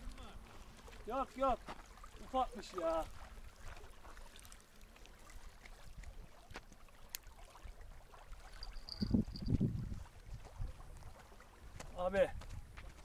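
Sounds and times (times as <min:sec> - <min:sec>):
faint outdoor noise: 0:00.0 - 0:13.0.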